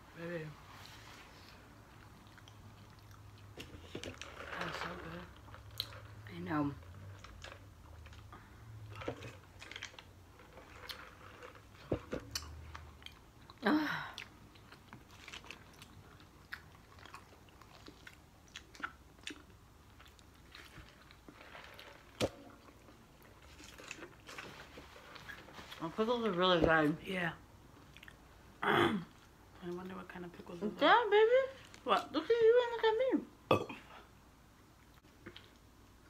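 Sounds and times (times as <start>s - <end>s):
people chewing and crunching food: 0.7s - 26.4s, 27.7s - 30.0s, 33.5s - 36.0s.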